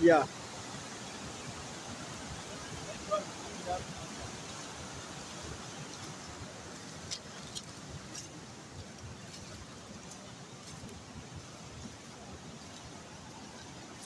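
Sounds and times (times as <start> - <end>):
fast-flowing river rushing: 0.0 - 14.0.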